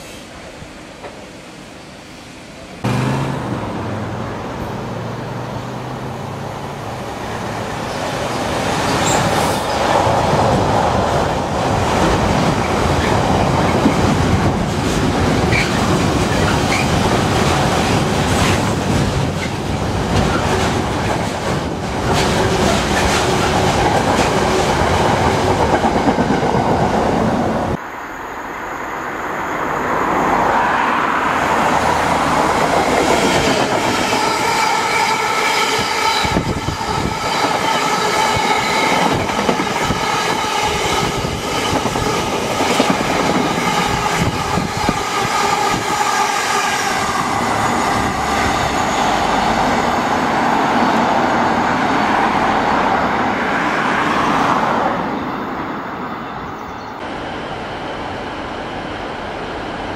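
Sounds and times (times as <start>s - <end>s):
approaching diesel locomotive: 0.0s - 59.9s
freight train rumbling past: 0.0s - 59.9s.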